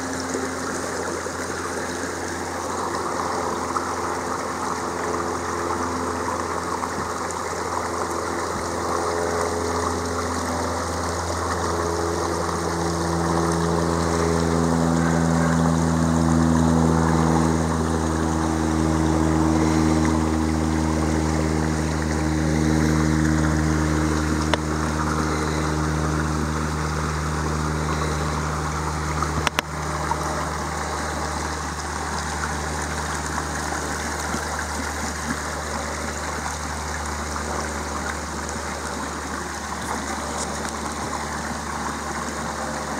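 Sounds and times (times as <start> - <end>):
creek running over stones: 0.0 - 42.9
low engine drone: 0.0 - 42.9.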